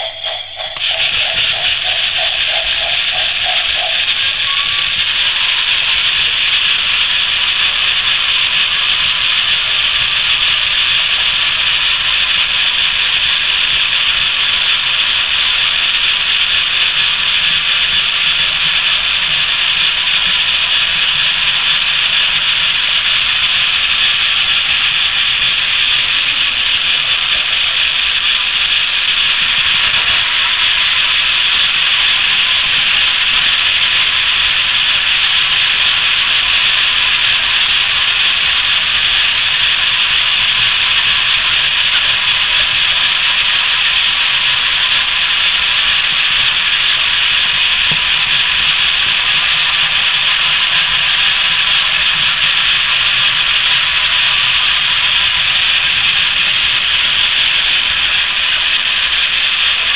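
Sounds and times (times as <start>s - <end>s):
toy train motor whirring: 0.0s - 59.9s.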